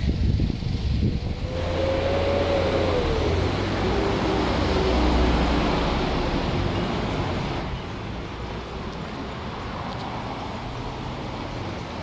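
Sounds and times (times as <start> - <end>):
city street noise: 0.0 - 12.0
vehicle passing with low rumble: 0.0 - 12.0.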